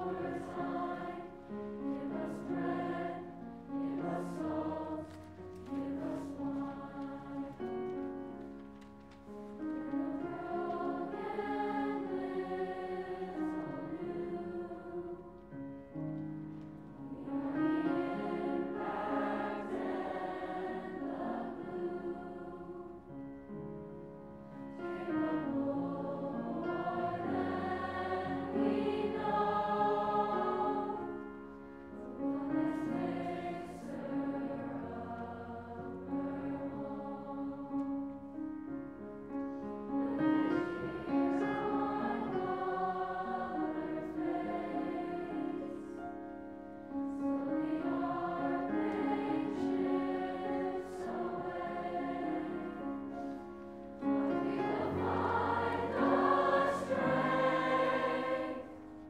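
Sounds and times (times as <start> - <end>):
choir singing: 0.0 - 8.1, 9.7 - 15.6, 17.0 - 23.3, 24.5 - 38.1, 39.6 - 46.2, 47.1 - 59.0
grand piano accompaniment: 0.0 - 59.0.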